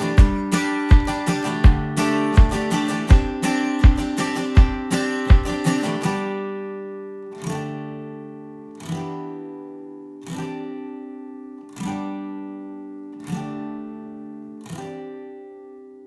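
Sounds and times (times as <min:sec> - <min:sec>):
acoustic guitar strumming slow chords: 0:00.0 - 0:16.0.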